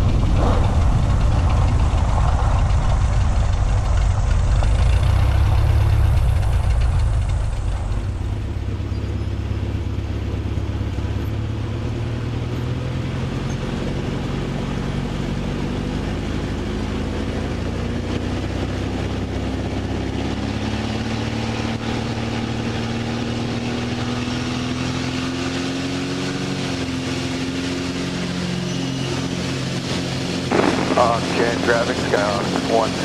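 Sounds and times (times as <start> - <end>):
aircraft piston engine drone: 0.0 - 33.0.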